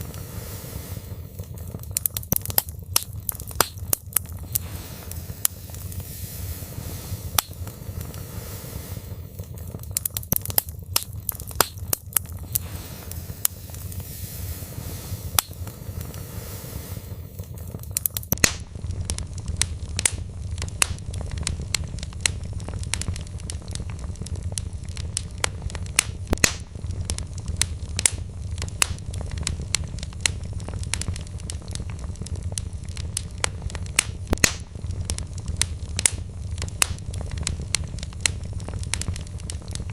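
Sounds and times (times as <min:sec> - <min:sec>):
crackling and popping logs: 0:00.0 - 0:39.9
fire low rumble: 0:00.0 - 0:39.9.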